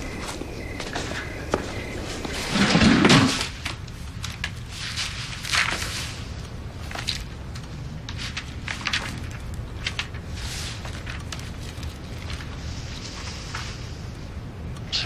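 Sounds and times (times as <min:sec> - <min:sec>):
objects rustling and clicking: 0:00.0 - 0:14.2
low steady hum: 0:00.0 - 0:15.0.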